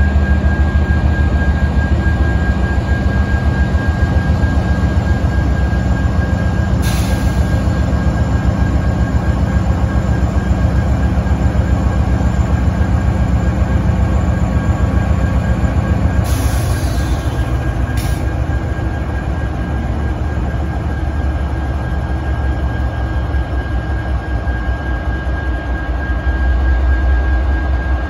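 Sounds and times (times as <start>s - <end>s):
diesel locomotive engines rumbling: 0.0s - 28.0s.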